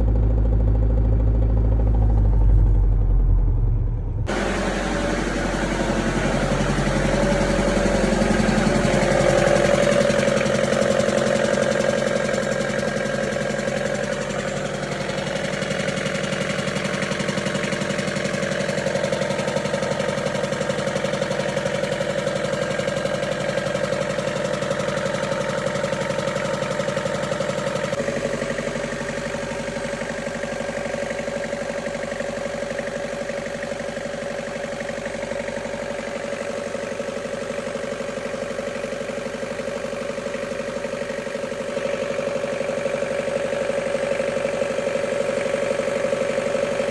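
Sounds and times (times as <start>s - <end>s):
car engine running: 0.0s - 46.9s.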